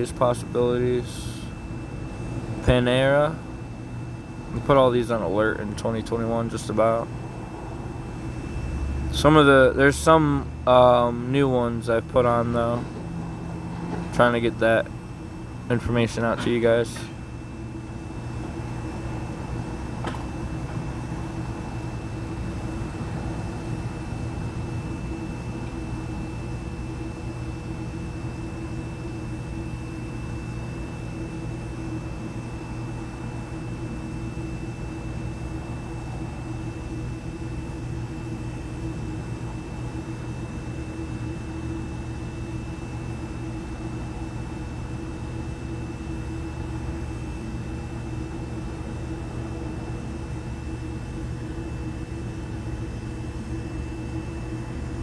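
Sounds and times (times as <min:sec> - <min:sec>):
machine hum and hiss: 0:00.0 - 0:55.0.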